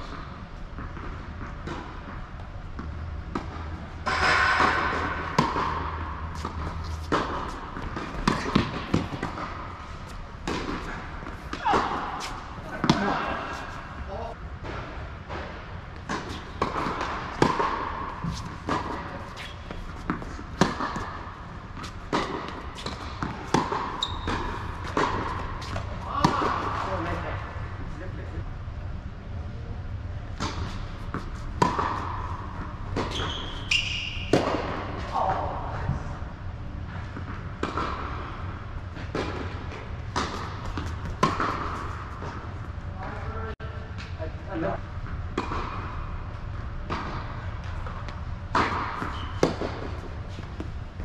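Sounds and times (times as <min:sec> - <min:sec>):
tennis balls hit and bouncing: 0:00.0 - 0:27.3, 0:30.3 - 0:36.0, 0:36.8 - 0:43.2, 0:43.9 - 0:51.0.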